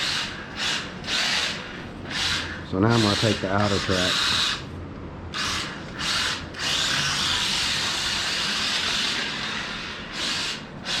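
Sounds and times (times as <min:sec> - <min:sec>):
small electric motor whining: 0:00.0 - 0:04.7, 0:05.3 - 0:11.0.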